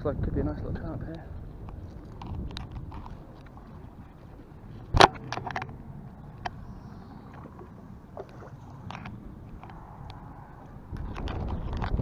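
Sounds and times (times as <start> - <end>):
wind noise on microphone: 0.0 - 7.6, 8.4 - 12.0.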